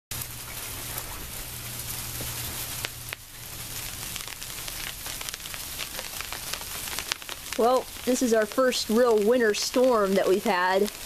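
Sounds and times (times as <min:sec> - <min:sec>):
ice pellets ticking on ground: 0:00.2 - 0:11.0.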